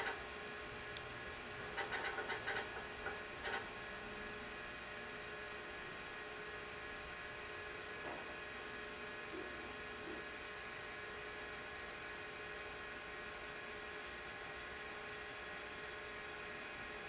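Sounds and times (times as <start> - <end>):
computer fan and drive hum: 0.0 - 17.0.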